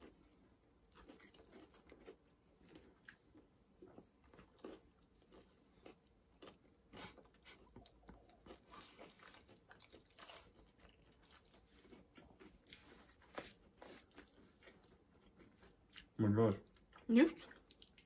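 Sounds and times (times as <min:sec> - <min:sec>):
crunching and chewing: 0:00.0 - 0:18.0.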